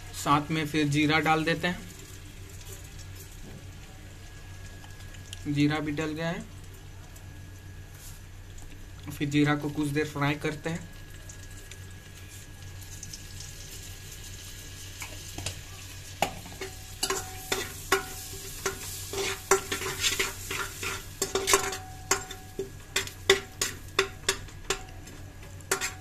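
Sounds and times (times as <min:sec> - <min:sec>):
seeds sizzling in butter: 0:00.0 - 0:26.0.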